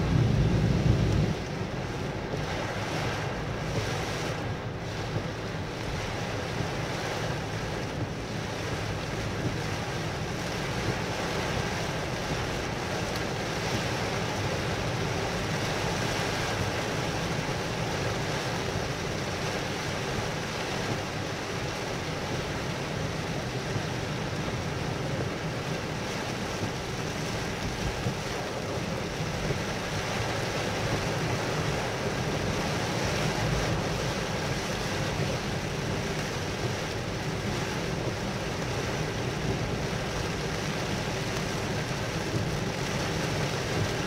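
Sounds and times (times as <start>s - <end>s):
rain on car windscreen: 0.0s - 44.0s
tyres on wet road: 0.0s - 44.0s.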